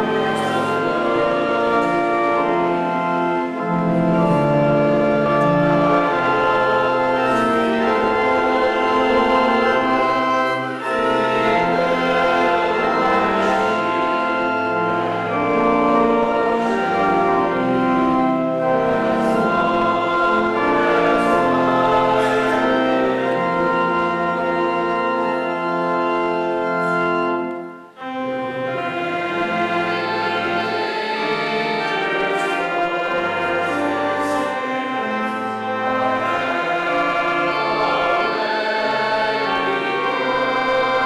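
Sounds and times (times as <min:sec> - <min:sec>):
choir singing a hymn: 0:00.0 - 0:41.0
organ accompaniment: 0:00.0 - 0:41.0.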